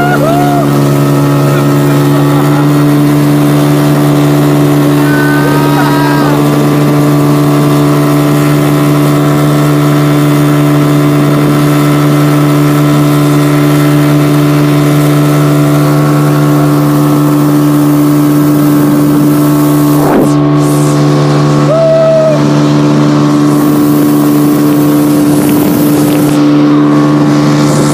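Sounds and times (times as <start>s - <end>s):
motorboat engine drone: 0.0s - 27.9s.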